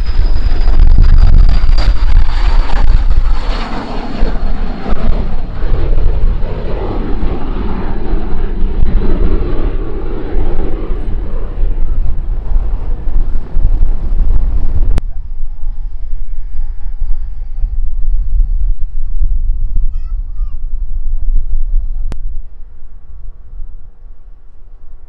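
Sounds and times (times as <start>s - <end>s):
airplane engine rumble: 0.0s - 25.0s
faint high engine whine: 0.0s - 25.0s.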